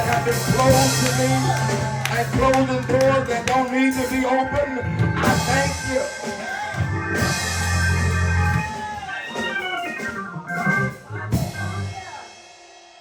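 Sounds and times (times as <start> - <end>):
organ playing sustained chords: 0.0 - 9.2, 9.9 - 12.0.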